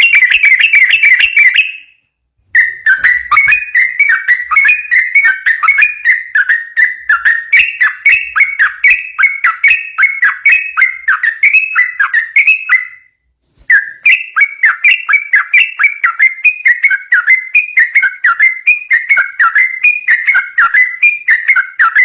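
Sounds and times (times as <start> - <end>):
bird singing whistled notes: 0.0 - 22.0.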